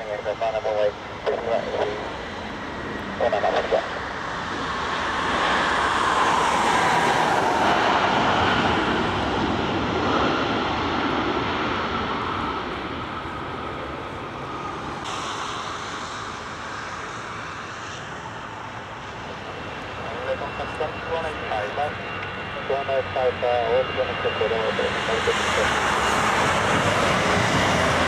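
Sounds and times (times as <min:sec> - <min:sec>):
jet engines passing by: 0:00.0 - 0:28.0.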